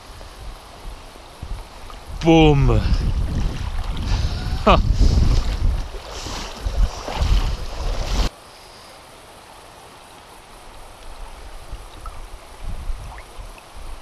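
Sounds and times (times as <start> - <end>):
wind buffeting on microphone: 0.0 - 8.3, 11.1 - 14.0
river water rushing: 0.0 - 14.0.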